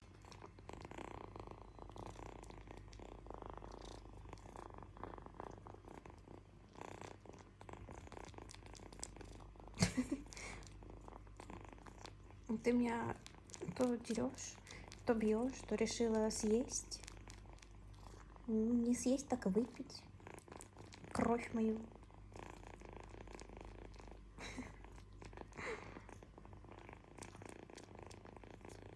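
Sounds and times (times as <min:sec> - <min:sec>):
kitten purring: 0:00.0 - 0:28.9.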